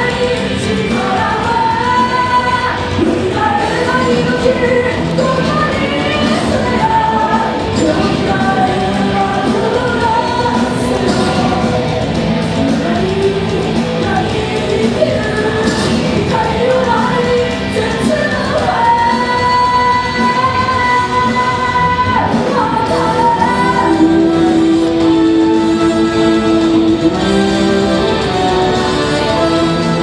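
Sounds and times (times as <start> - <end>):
live rock music with guitars: 0.0 - 30.0
person singing: 0.0 - 30.0.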